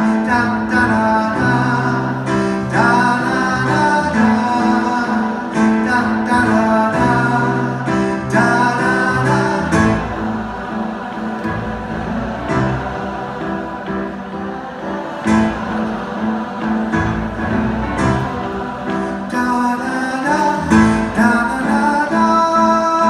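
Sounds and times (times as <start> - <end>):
audience singing sustained notes: 0.0 - 23.0.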